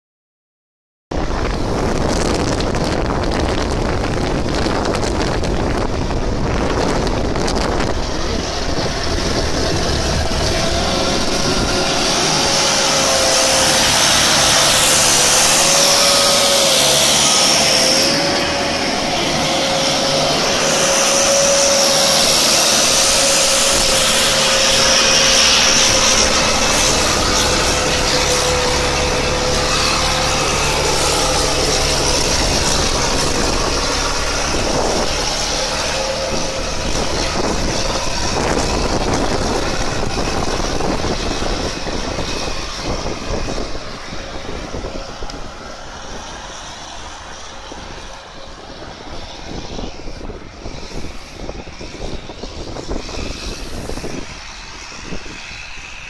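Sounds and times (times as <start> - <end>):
wavering whine: 1.2 - 56.0
motor running steadily: 1.4 - 56.0.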